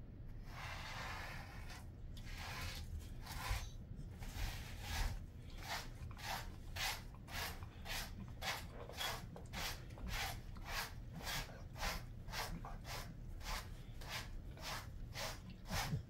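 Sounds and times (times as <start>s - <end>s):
brush rasping through dog fur: 0.4s - 16.0s.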